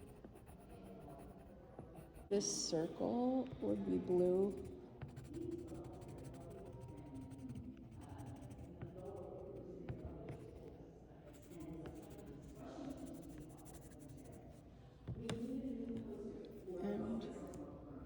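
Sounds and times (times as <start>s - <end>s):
pencil scratching on paper: 0.0s - 2.6s, 4.0s - 16.9s
faint voices murmuring: 0.0s - 18.0s.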